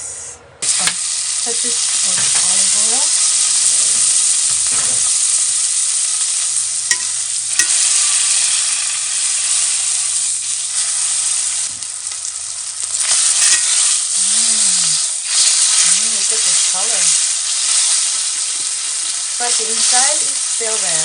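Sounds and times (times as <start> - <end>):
beef sizzling in a pan: 0.6 - 21.0.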